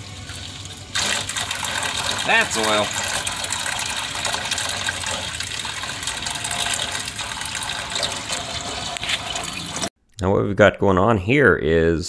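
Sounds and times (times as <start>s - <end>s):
oil pouring into drain pan: 0.0s - 9.9s.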